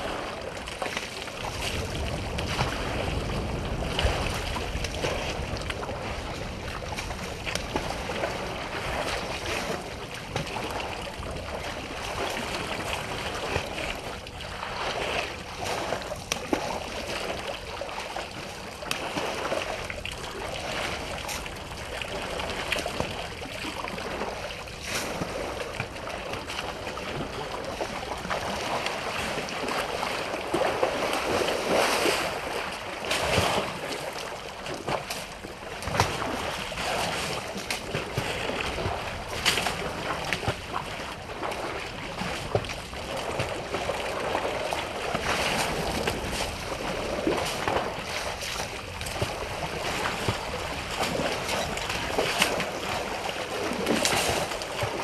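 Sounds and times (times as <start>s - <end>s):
elephants splashing water: 0.0s - 55.0s.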